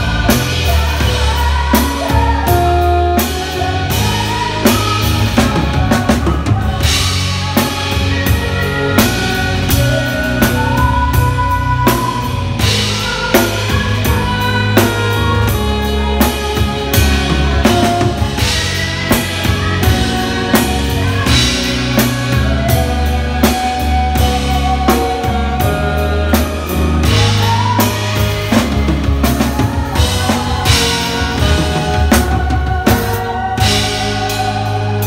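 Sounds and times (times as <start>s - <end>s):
bass guitar: 0.0s - 35.0s
drum kit beat: 0.0s - 35.0s
live band music: 0.0s - 35.0s.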